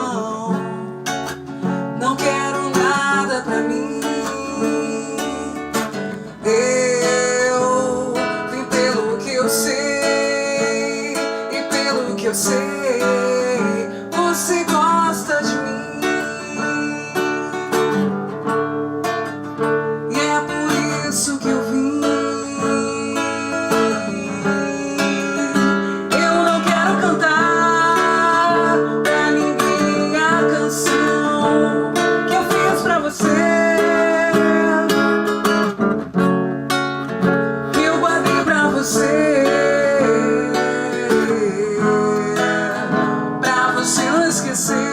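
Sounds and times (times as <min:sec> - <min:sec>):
person singing: 0:00.0 - 0:36.2, 0:37.3 - 0:44.9
acoustic guitar strumming: 0:00.0 - 0:44.9.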